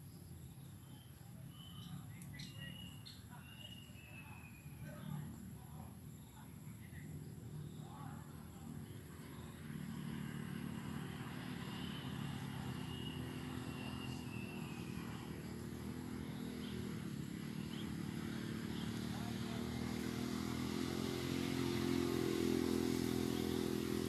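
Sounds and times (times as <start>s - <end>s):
motor engine droning: 0.0s - 24.0s.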